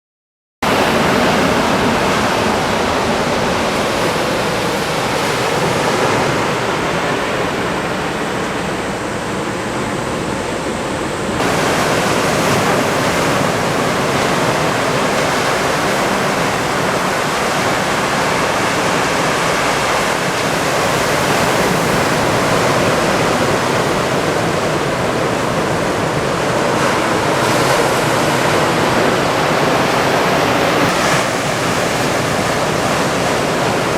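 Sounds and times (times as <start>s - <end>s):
ocean surf breaking: 0.6s - 33.9s.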